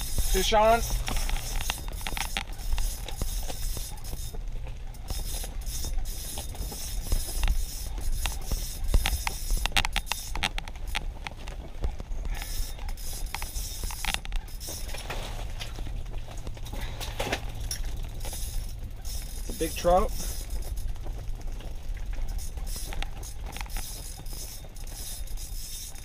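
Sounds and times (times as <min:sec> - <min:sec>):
fishing reel ratcheting clicks: 0:00.0 - 0:04.4, 0:05.0 - 0:11.4, 0:12.3 - 0:15.0, 0:17.5 - 0:21.2, 0:22.0 - 0:26.0.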